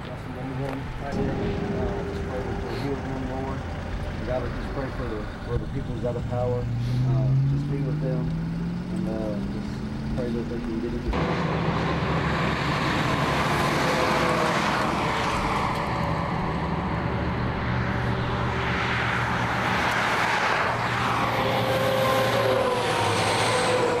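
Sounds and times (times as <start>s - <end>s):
road noise: 0.0s - 24.0s
truck engine hum: 0.0s - 24.0s.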